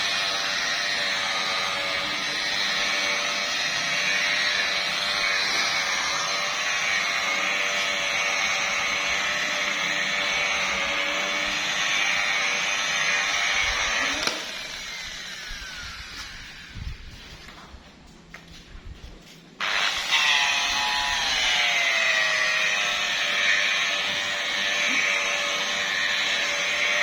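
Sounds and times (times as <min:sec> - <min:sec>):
motor winding down whine: 0:00.0 - 0:17.3, 0:19.6 - 0:27.0
electric polisher running: 0:00.0 - 0:17.5, 0:19.6 - 0:27.0.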